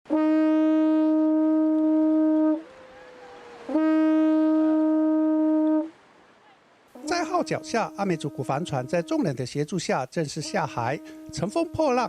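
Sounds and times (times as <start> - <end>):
horn blasts: 0.1 - 6.1, 7.0 - 12.0.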